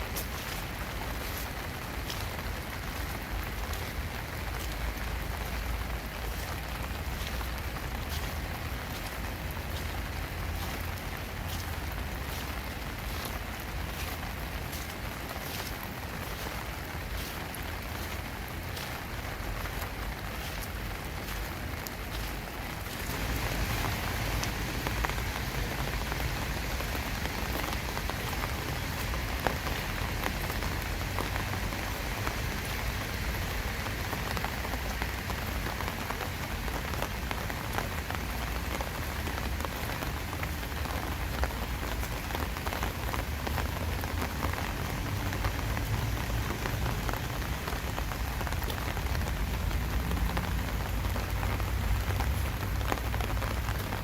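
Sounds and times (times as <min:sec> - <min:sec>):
rain hissing: 0:00.0 - 0:54.0
raindrops ticking: 0:00.0 - 0:54.0.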